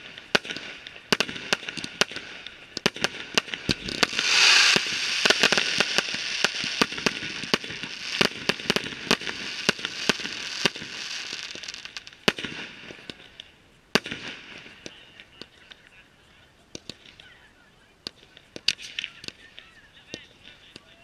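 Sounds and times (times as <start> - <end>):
fireworks bursting: 0.0 - 17.4, 18.0 - 21.0
fireworks crackling: 0.0 - 21.0.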